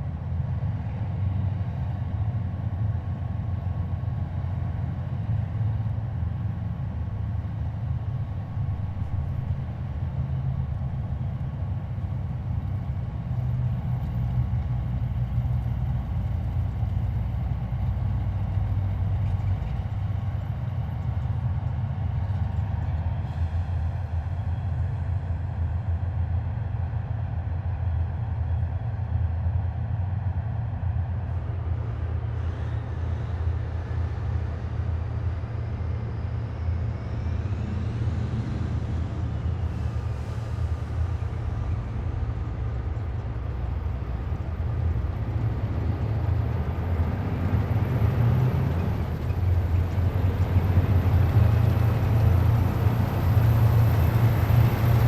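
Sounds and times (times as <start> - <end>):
heavy vehicles engine rumble: 0.0 - 55.0.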